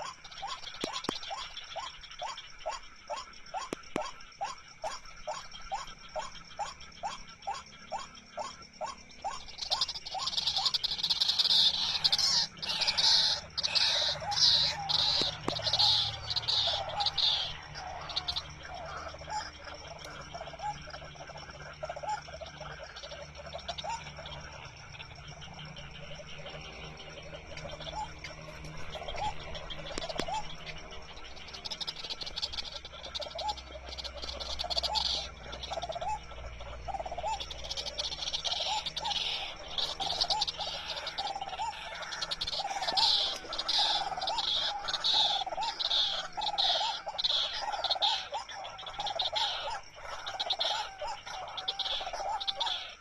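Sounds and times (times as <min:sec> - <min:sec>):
frogs croaking: 0:00.0 - 0:53.0
insects trilling: 0:00.0 - 0:53.0
waterhen calling: 0:00.0 - 0:53.0.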